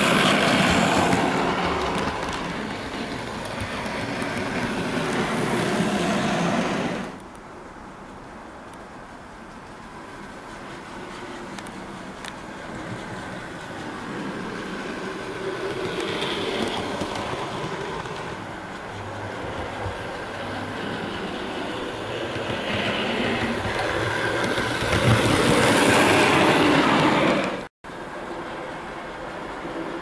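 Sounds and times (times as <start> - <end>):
wheels rolling on rails: 0.0 - 7.4, 8.0 - 30.0.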